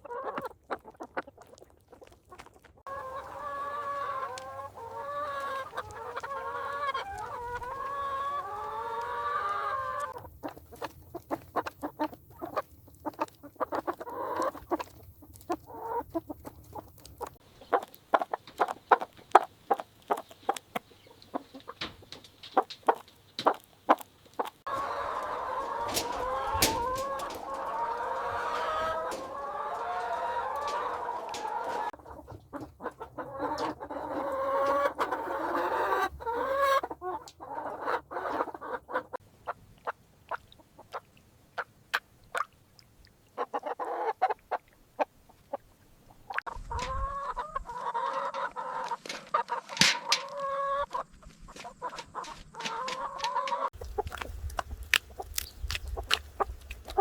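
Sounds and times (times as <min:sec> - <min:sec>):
chickens clucking: 0:00.0 - 0:42.4, 0:43.3 - 0:57.0.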